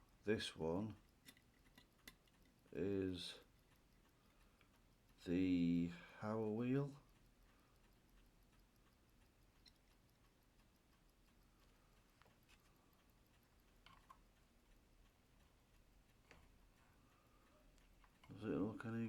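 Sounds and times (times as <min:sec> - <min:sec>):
fast high ticking: 0:00.1 - 0:19.0
watch parts clicking: 0:00.9 - 0:02.8, 0:03.4 - 0:05.2, 0:07.1 - 0:19.0.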